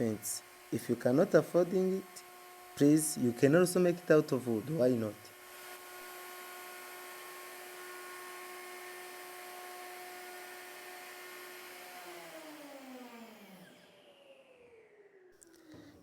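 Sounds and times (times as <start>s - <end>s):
wood router whining and spinning down: 0.0s - 16.0s.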